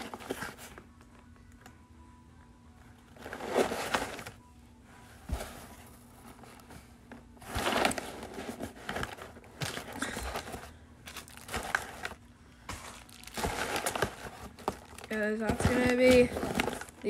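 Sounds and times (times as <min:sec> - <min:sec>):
cardboard rustling and scraping: 0:00.0 - 0:00.8, 0:03.2 - 0:04.4, 0:05.2 - 0:17.0.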